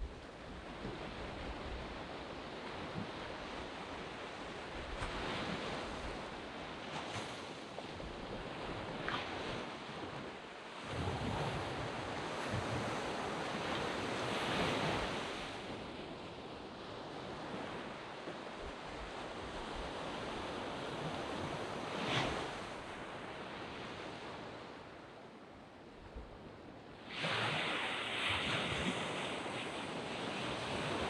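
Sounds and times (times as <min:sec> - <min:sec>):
sea waves breaking on a beach: 0:00.0 - 0:31.0.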